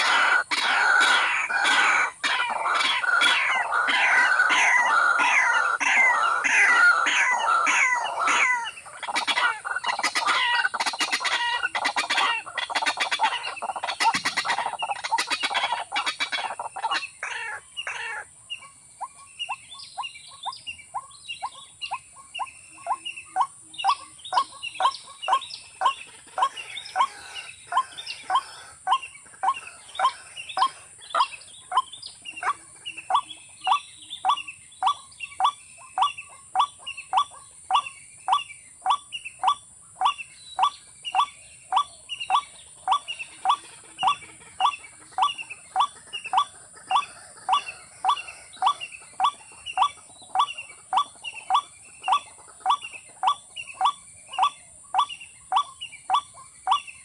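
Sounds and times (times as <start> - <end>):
bird calling: 0.0 - 57.0.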